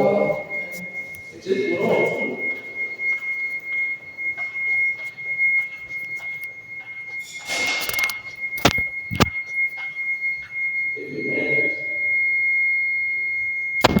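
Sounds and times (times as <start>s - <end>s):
high-pitched electronic alarm tone: 0.0s - 14.0s.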